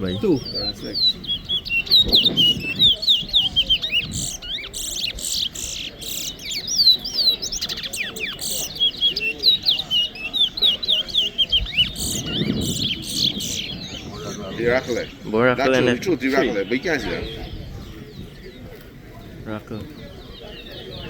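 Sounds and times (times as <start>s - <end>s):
finches chirping whistles: 0.0s - 21.0s.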